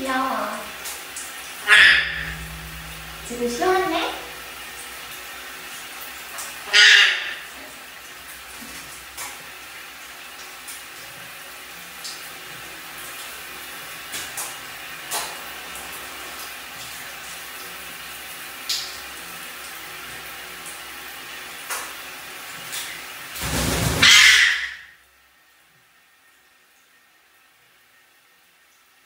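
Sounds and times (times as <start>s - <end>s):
shower spray running: 0.0s - 24.1s.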